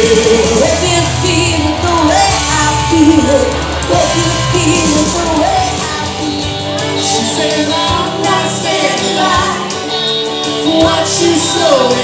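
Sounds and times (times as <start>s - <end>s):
live pop-rock band: 0.0s - 12.0s
person singing: 0.0s - 12.0s.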